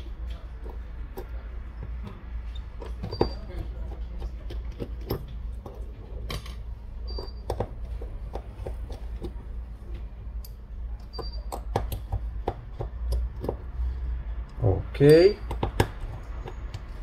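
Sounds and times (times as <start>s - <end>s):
hand tools clicking and tapping: 0.0s - 17.0s.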